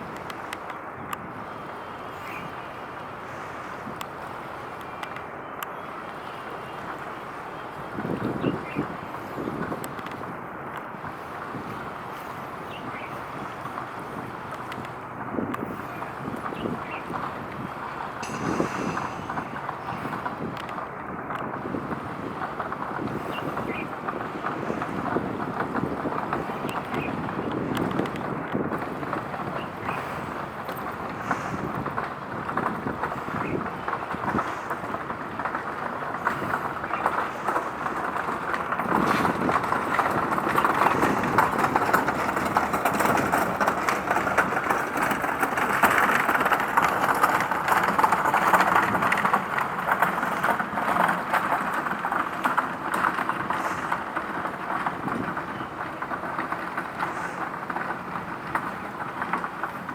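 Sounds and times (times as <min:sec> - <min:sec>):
passing traffic rushing: 0:00.0 - 0:59.9.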